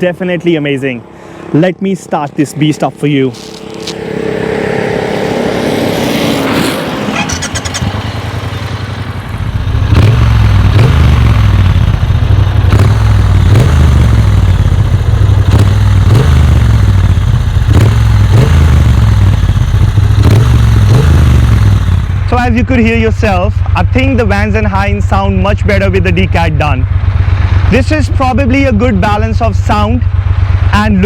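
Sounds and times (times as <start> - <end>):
motorcycle engine starting: 3.3 - 31.0
motorcycle engine running loud: 3.4 - 31.0.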